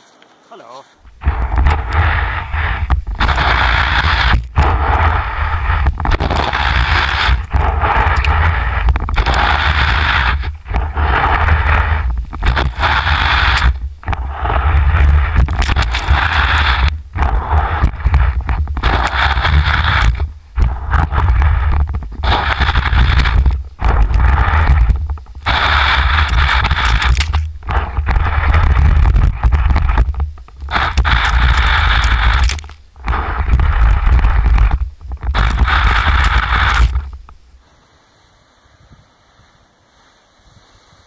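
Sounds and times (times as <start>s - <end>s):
skis scraping through snow: 0.0s - 41.0s
wind rumble on microphone: 1.0s - 37.9s, 38.5s - 41.0s.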